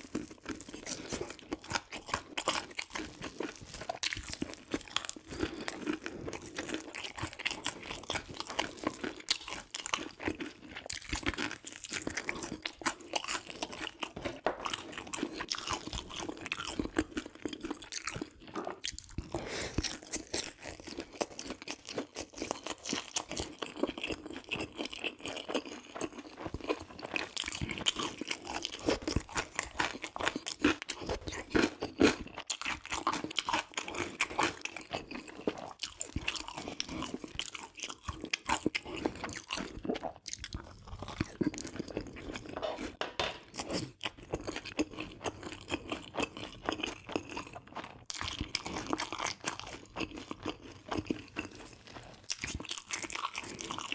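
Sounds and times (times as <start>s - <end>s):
crunching and chewing crispy food: 0.0s - 53.9s.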